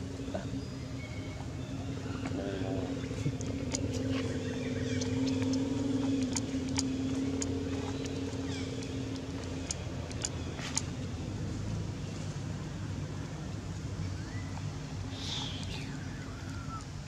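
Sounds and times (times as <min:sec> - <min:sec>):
low background hum: 0:00.0 - 0:17.0
motor engine droning: 0:00.0 - 0:17.0.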